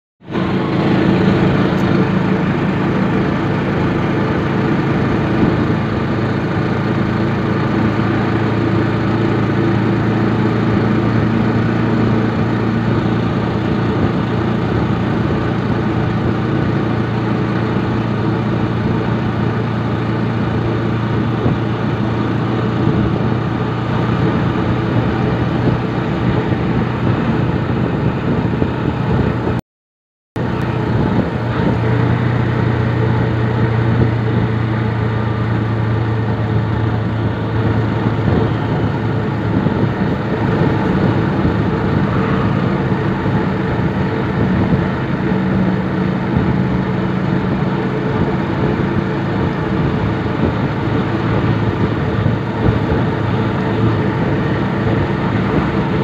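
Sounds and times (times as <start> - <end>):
road and wind noise: 0.2 - 29.6, 30.4 - 56.0
vehicle engine running: 0.2 - 29.6, 30.4 - 56.0.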